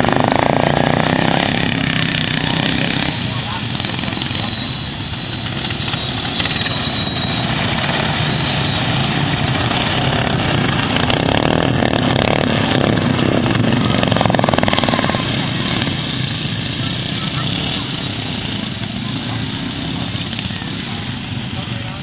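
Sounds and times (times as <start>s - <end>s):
engine crackles: 0.0s - 22.0s
lawn mower engines running hard: 0.0s - 22.0s.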